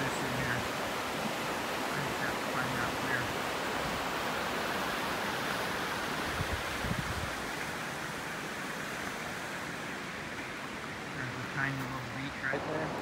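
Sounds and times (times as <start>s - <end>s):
river rapids roaring: 0.0s - 13.0s.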